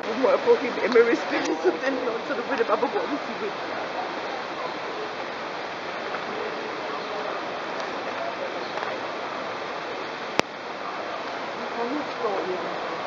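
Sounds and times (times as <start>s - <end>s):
faint voices: 0.0s - 13.0s
water splashing from fountains: 0.0s - 13.0s.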